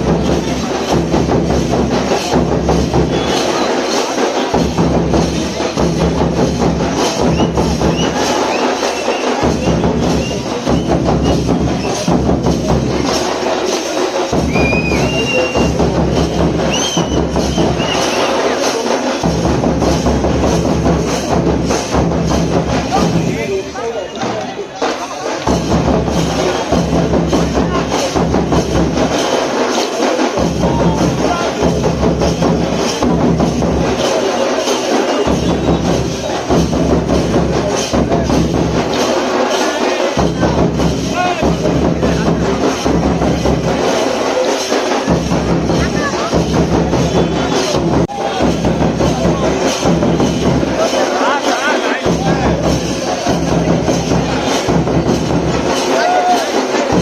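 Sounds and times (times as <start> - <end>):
fast drumming: 0.0 - 57.0.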